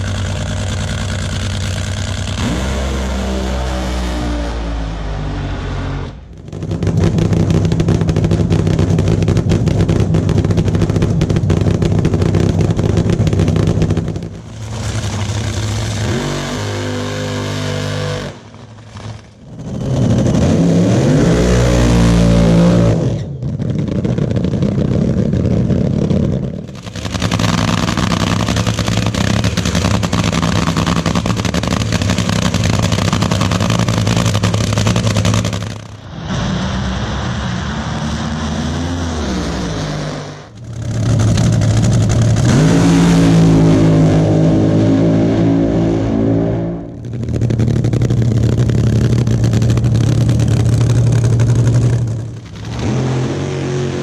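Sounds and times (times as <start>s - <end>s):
dragster engines crackling: 0.0s - 3.8s, 4.6s - 54.0s
engine revving: 0.0s - 54.0s.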